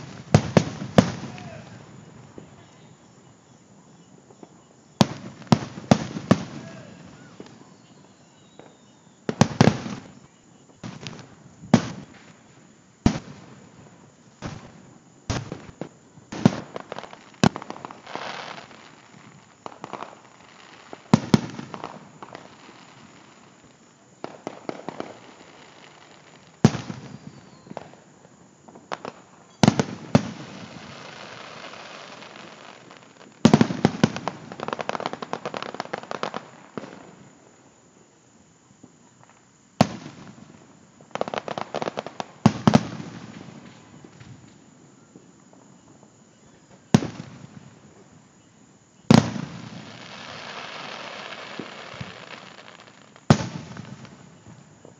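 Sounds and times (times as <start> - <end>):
fireworks bursting: 0.0 - 54.9
fireworks crackling: 0.0 - 54.9.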